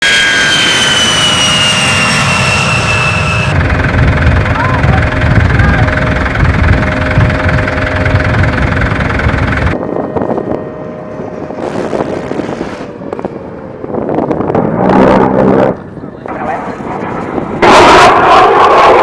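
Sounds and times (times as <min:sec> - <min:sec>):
engines whining: 0:00.0 - 0:19.0
rough engine noise: 0:00.0 - 0:19.0.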